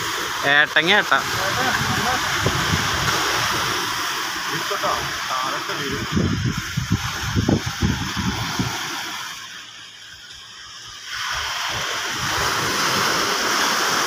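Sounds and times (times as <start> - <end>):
surf washing against rocks: 0.0 - 14.0.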